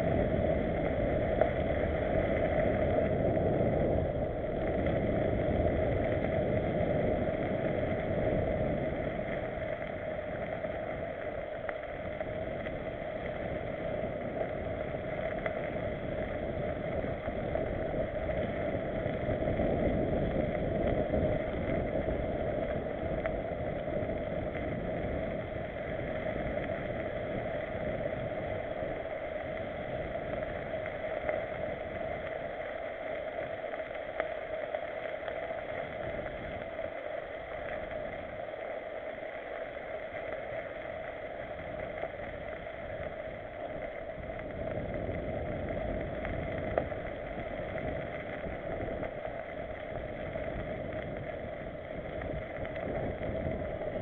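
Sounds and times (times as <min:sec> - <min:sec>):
bike tyres rumbling on dirt: 0:00.0 - 0:54.0
wind rushing over microphone: 0:00.0 - 0:54.0.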